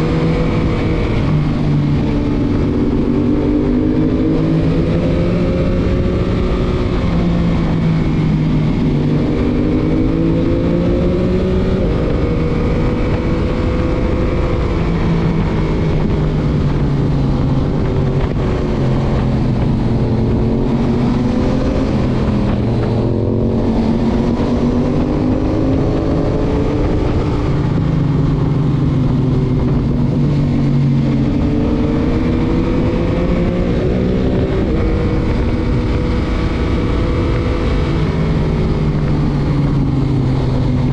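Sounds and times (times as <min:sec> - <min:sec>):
motorcycle engine accelerating: 0:00.0 - 0:40.9
wind rush on microphone: 0:00.0 - 0:40.9.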